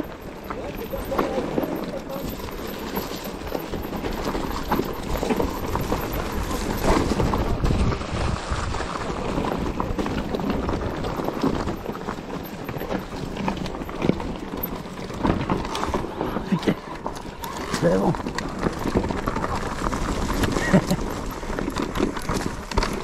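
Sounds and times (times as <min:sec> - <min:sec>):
bike rattling and knocking: 0:00.0 - 0:23.0
bike tyres rolling over ground: 0:00.0 - 0:23.0
wind rumble on microphone: 0:00.0 - 0:23.0.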